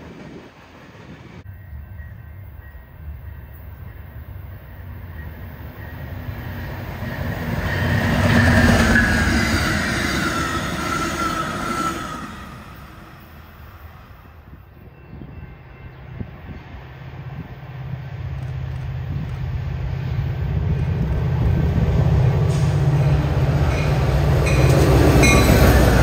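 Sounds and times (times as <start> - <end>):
freight train rumble: 0.0 - 26.0
passenger train passing: 0.0 - 26.0.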